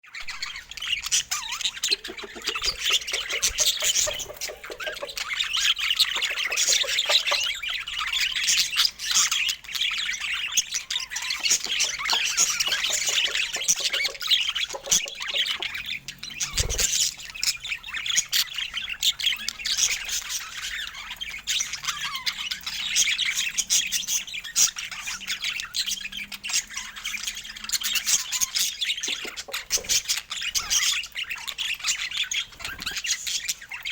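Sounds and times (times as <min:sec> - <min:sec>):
budgerigars chattering and chirping: 0:00.2 - 0:33.9.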